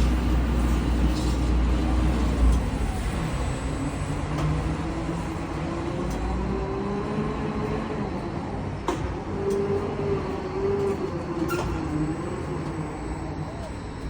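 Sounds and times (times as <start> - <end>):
diesel machinery whining: 0.0 - 14.0.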